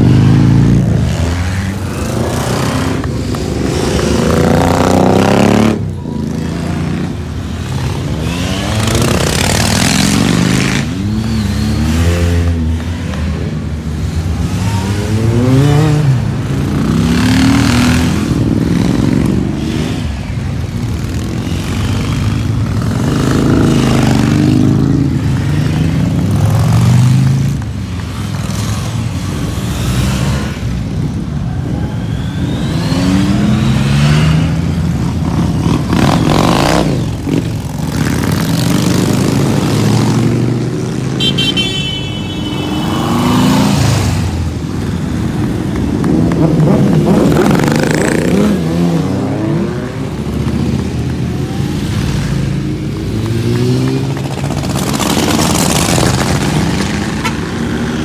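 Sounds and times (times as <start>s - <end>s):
motorcycles passing by: 0.0s - 58.0s
road traffic: 0.0s - 58.0s.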